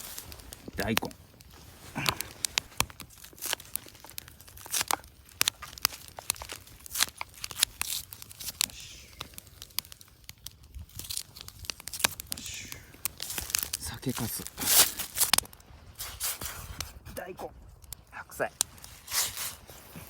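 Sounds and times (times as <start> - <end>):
crinkling and tearing: 0.0 - 20.0.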